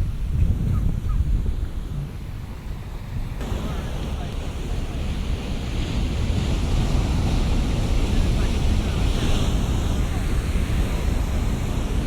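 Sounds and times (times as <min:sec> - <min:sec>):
wind buffeting microphone: 0:00.0 - 0:12.0
ocean surf breaking: 0:01.3 - 0:12.0.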